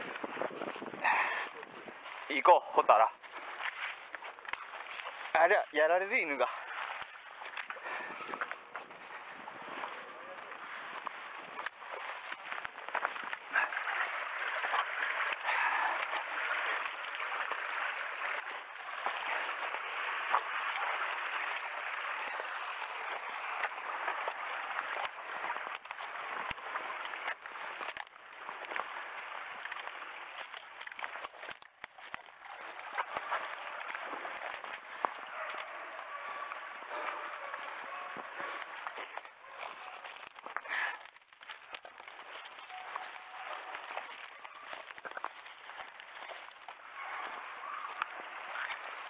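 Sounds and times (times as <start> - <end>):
footsteps: 0.0 - 49.0
rustling of grass and brush: 0.0 - 49.0
water splashing: 0.0 - 49.0.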